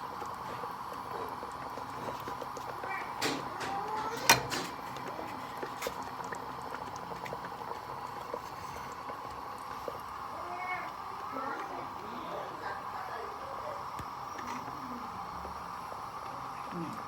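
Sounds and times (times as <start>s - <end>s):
stew simmering in a pot: 0.0s - 17.0s.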